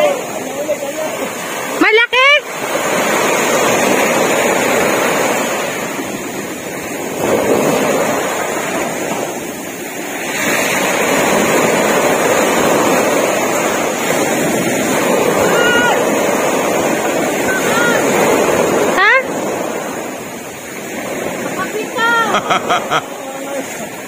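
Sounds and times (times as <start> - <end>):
small waves breaking on beach: 0.0 - 24.0.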